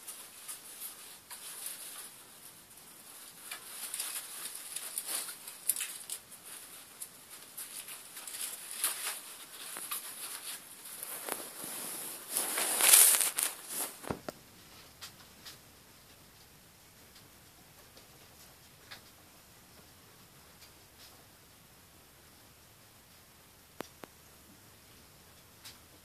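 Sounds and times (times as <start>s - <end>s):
rats rustling and scratching in hay: 0.0s - 26.0s.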